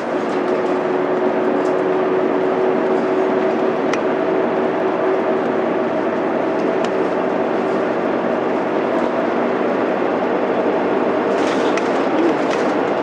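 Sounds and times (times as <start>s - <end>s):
bus diesel engine running: 0.0s - 13.0s
road and tyre noise: 0.0s - 13.0s.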